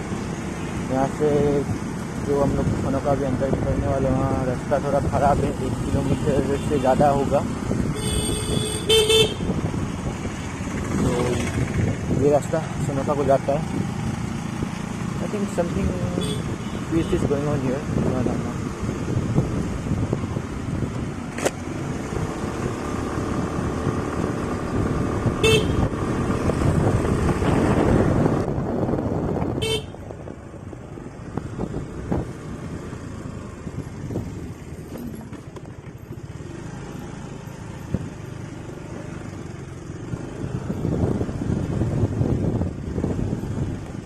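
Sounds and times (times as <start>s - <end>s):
wind and road noise: 0.0s - 44.0s.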